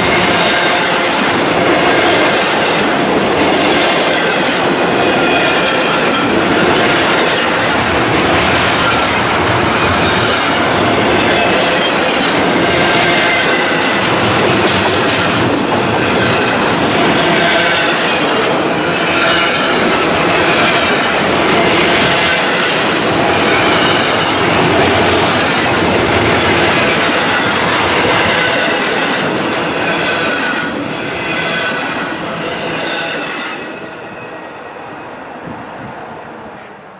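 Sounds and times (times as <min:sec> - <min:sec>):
train wheels clicking over rail joints: 0:00.0 - 0:33.7
freight train rumble: 0:00.0 - 0:36.9.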